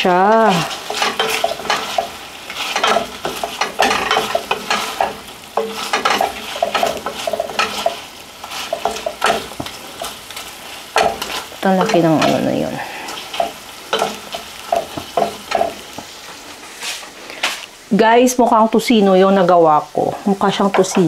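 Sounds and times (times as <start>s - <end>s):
food sizzling: 0.0s - 21.0s
utensil scraping and knocking in pan: 0.1s - 17.6s.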